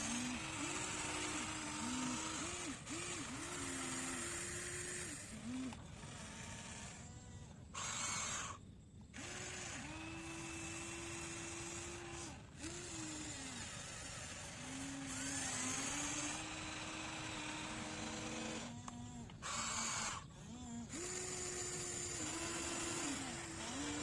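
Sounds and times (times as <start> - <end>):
small electric motors whining: 0.0 - 24.0.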